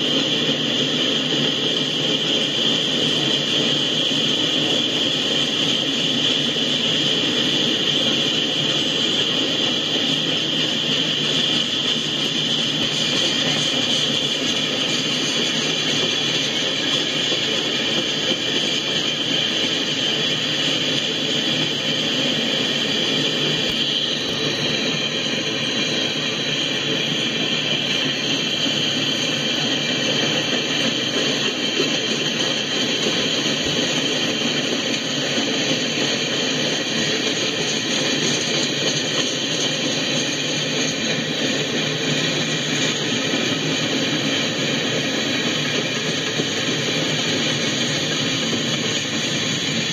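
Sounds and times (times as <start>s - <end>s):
freight train cars rolling past: 0.0s - 49.9s.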